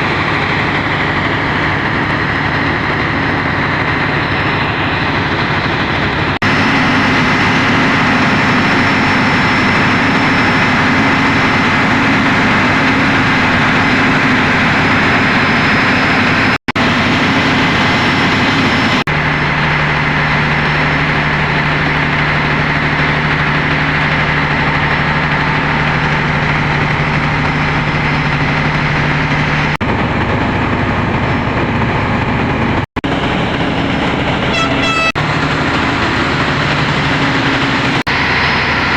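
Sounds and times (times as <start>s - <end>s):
train locomotive engine humming: 0.0s - 38.9s.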